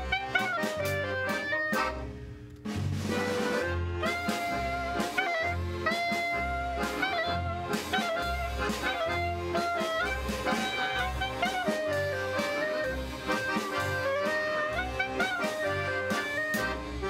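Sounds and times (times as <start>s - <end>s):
bending lead melody: 0.0s - 17.0s
bouncing bass line: 0.0s - 17.0s
klezmer band playing: 0.0s - 17.0s.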